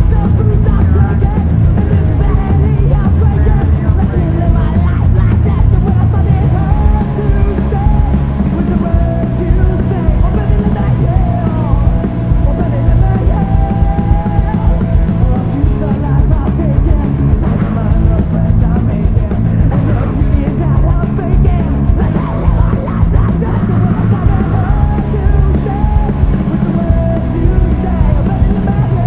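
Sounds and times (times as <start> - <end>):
muffled rock song: 0.0 - 29.0.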